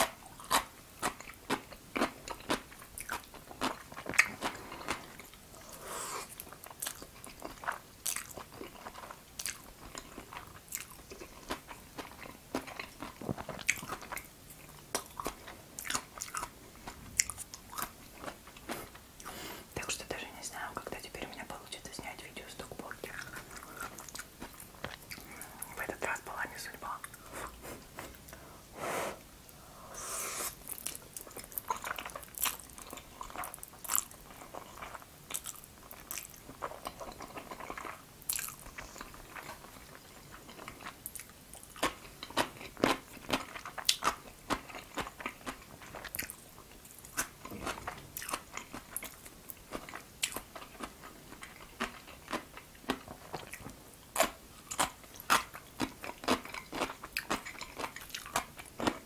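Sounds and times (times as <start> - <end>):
chewing noodles: 0.0 - 19.5, 22.9 - 26.0, 30.5 - 59.0.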